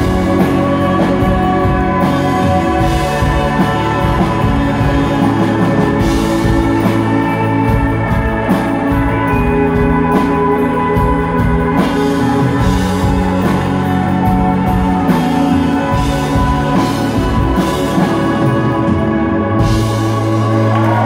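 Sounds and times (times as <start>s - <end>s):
drum kit steady beat: 0.0s - 21.0s
sustained guitar chords: 0.0s - 21.0s.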